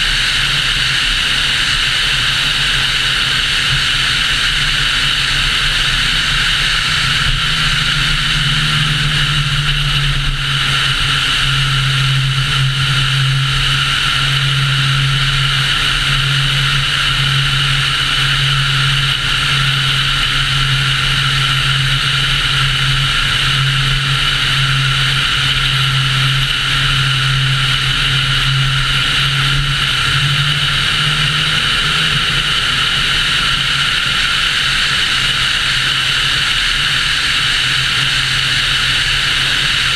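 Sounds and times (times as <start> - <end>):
low engine hum: 0.0 - 39.9
wind and road noise: 0.0 - 39.9.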